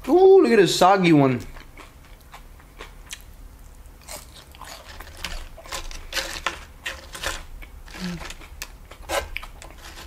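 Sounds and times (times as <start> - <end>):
chewing crunchy chips: 1.4 - 10.0.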